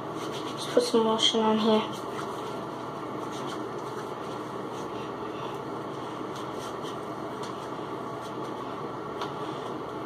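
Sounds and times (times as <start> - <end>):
ventilation fan hum: 0.0 - 10.0.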